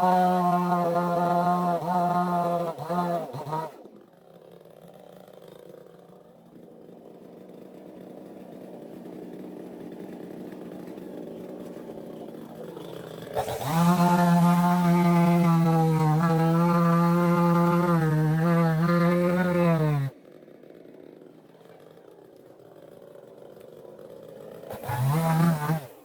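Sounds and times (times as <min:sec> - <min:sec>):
muffled chainsaw running: 0:00.0 - 0:26.0.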